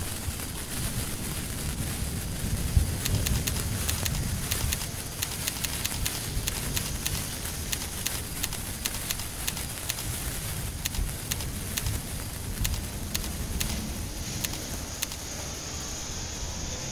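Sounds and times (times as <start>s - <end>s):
sparklers fizzing and crackling: 0.0s - 16.9s.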